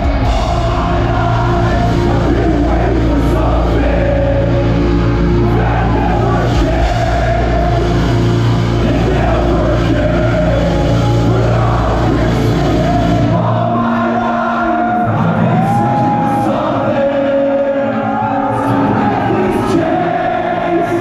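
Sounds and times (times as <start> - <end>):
metalcore band playing live: 0.0 - 21.0.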